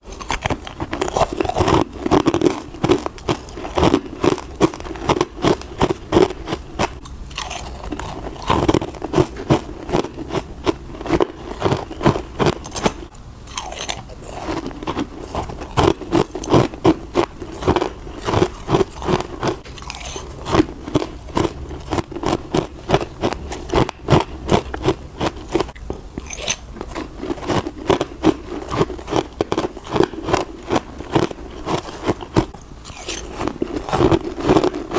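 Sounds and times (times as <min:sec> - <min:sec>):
teeth crunching frozen ice: 0:00.0 - 0:34.9.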